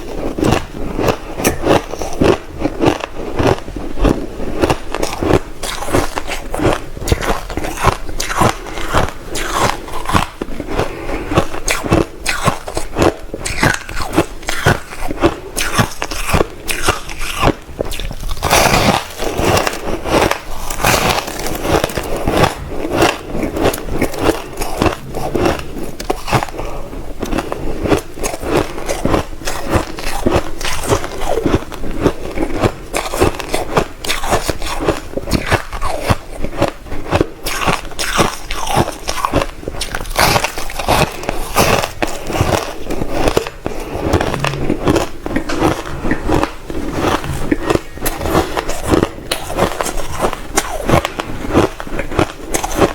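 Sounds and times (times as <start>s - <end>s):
crushed ice being chewed: 0.0s - 52.9s.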